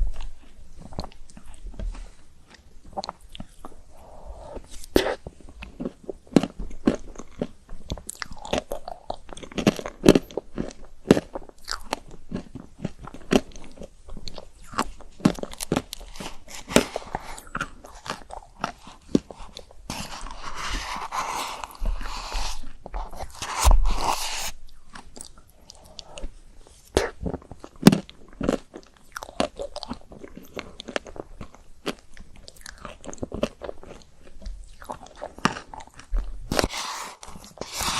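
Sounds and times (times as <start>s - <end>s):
crunching chocolate ice cream: 0.0s - 37.9s
wet mouth sounds: 3.0s - 12.1s, 13.3s - 37.9s.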